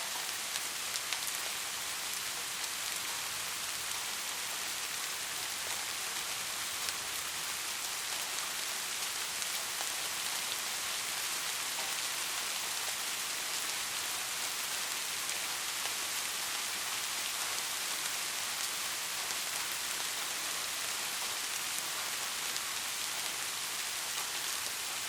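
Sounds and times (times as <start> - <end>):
soft rain falling: 0.0 - 25.0.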